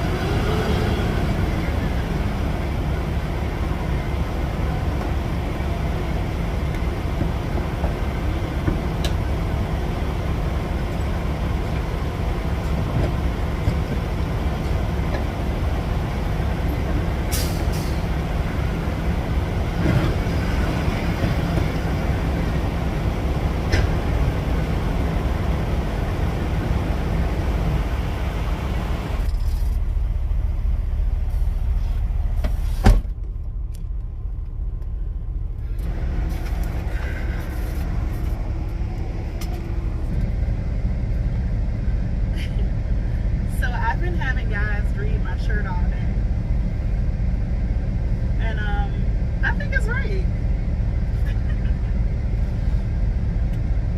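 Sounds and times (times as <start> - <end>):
truck engine and road rumble: 0.0 - 53.9.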